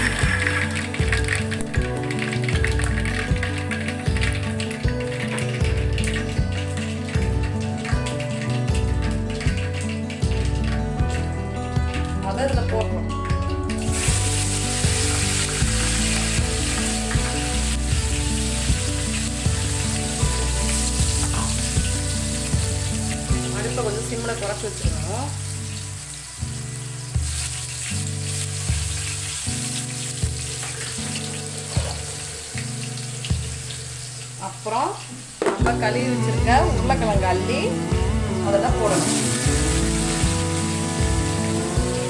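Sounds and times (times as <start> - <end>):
background music: 0.0 - 42.0
hot oil sizzling and crackling: 0.0 - 42.0.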